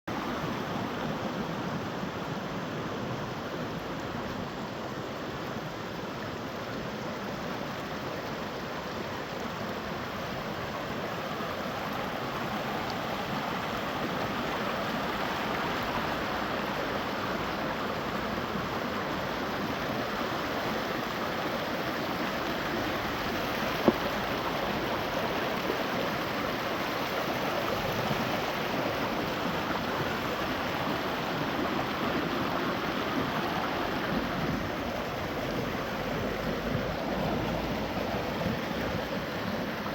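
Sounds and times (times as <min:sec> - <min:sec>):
stream water rushing: 0:00.1 - 0:39.9.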